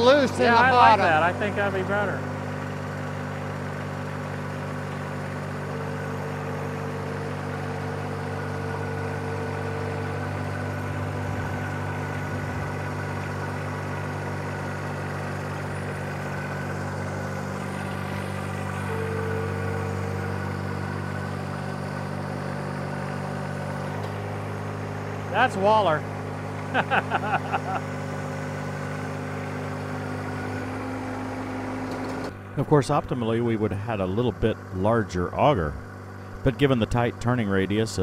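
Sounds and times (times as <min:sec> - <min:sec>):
diesel tractor engine running: 0:00.0 - 0:38.0.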